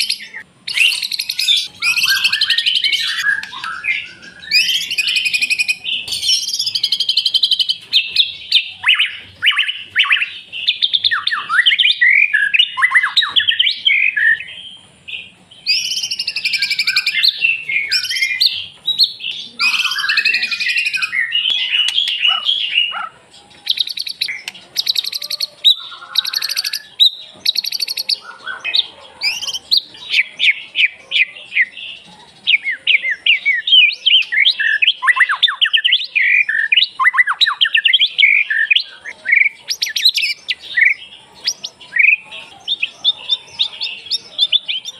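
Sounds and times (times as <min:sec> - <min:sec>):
bird singing whistles and trills: 0:00.0 - 0:44.9.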